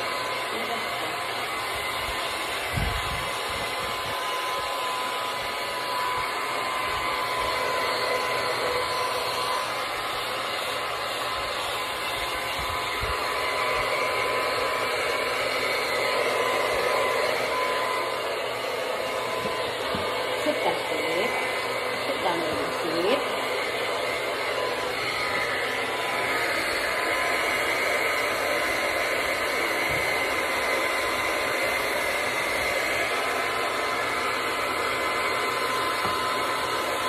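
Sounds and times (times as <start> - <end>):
hair dryer blowing: 0.0 - 37.0.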